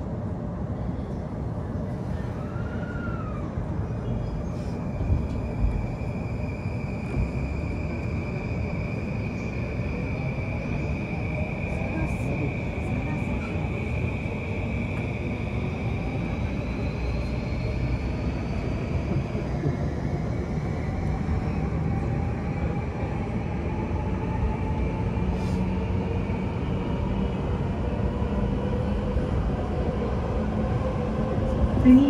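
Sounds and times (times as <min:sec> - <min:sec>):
train rumble on rails: 0:00.0 - 0:32.0.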